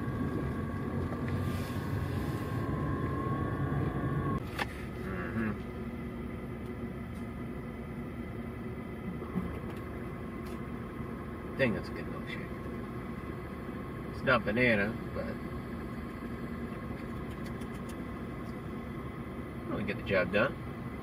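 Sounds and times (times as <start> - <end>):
car engine and road rumble: 0.0 - 21.0
faint whine: 0.0 - 21.0.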